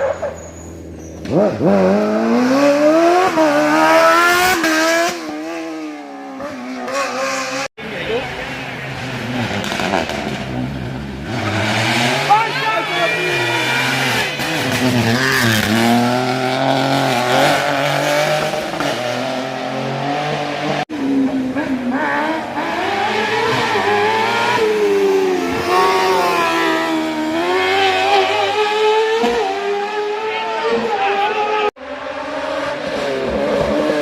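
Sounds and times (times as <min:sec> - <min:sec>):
race car engine revving hard: 0:01.2 - 0:07.7, 0:08.8 - 0:34.0.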